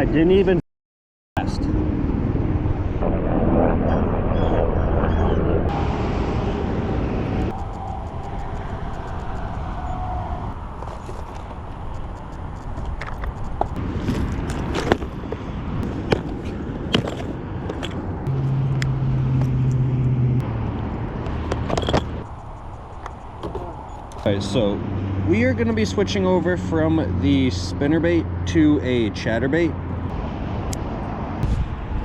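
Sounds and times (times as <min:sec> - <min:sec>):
low hum: 0:01.4 - 0:28.5
wind rumble: 0:01.4 - 0:32.0
distant road traffic: 0:05.1 - 0:32.0.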